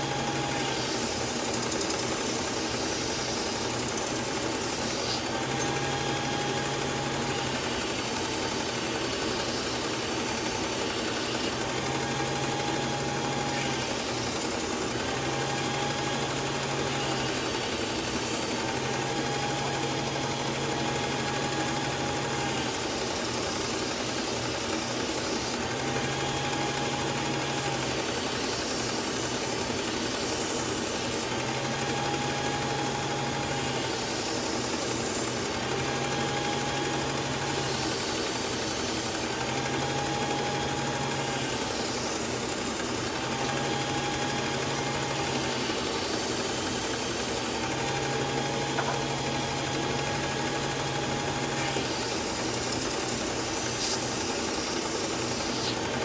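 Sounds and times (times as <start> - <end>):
motorised belt sharpener running: 0.0 - 56.0.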